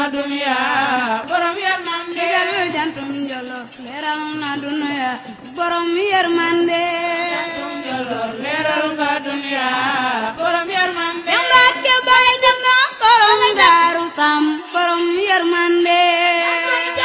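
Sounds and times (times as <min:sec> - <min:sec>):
person singing: 0:00.0 - 0:17.0
sharp beats: 0:00.6 - 0:17.0.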